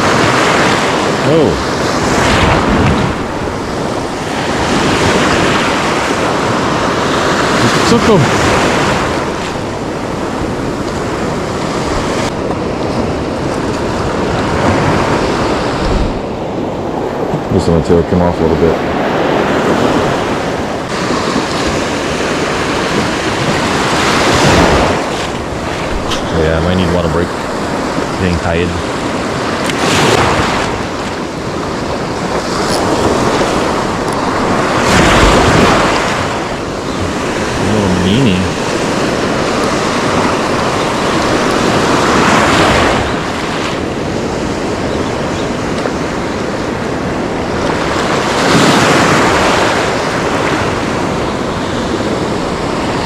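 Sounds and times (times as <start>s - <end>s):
wind noise on microphone: 0.0s - 7.7s, 8.3s - 17.6s, 19.0s - 53.0s
ocean surf washing: 0.0s - 53.0s.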